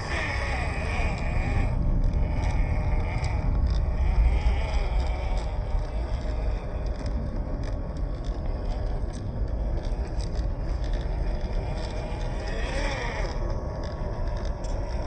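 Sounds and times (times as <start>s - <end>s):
electric motor and gearbox whining: 0.0s - 15.0s
heavy low rumble: 0.0s - 15.0s
small clicks and scrapes: 0.0s - 15.0s.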